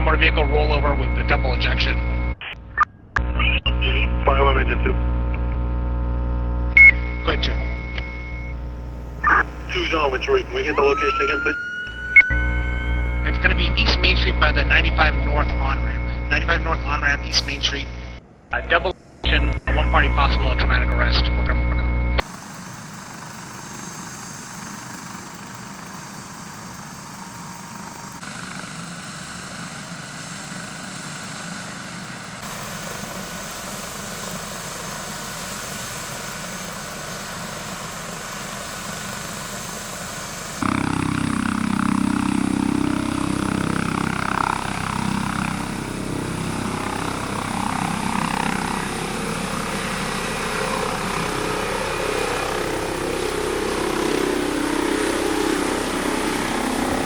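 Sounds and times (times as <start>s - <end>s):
helicopter rotor and engine: 0.0s - 2.4s, 6.8s - 21.4s, 22.2s - 57.0s.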